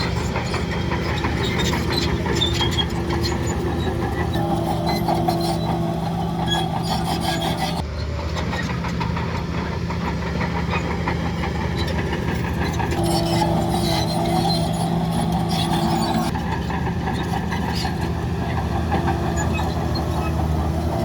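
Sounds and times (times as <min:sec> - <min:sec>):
heavy diesel machinery running: 0:00.0 - 0:21.0.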